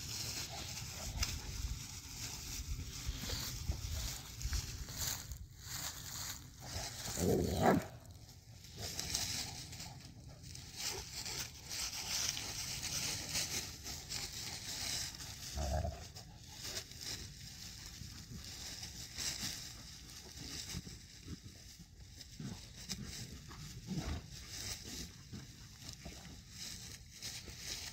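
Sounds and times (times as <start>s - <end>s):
leaves rustling and crunching: 0.0s - 27.9s.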